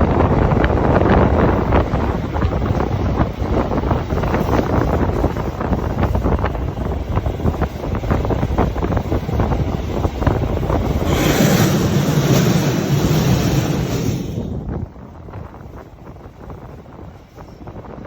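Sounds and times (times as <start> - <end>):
diesel railcar running: 0.0 - 18.0
wind buffeting microphone: 0.0 - 18.0.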